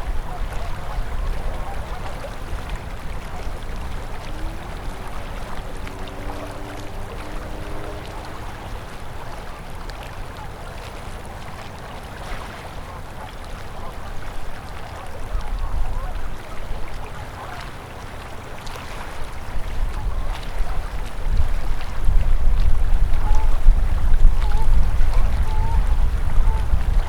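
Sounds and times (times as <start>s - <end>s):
river water rushing and gurgling: 0.0s - 27.0s.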